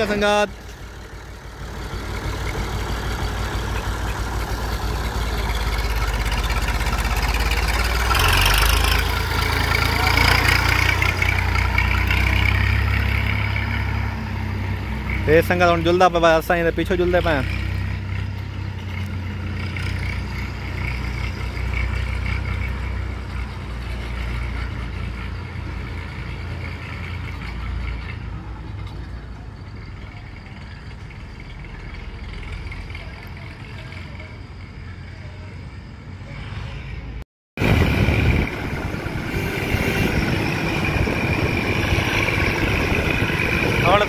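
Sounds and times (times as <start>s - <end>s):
tractor diesel engine running: 0.0s - 36.2s, 37.6s - 44.0s
road traffic noise: 0.0s - 44.0s.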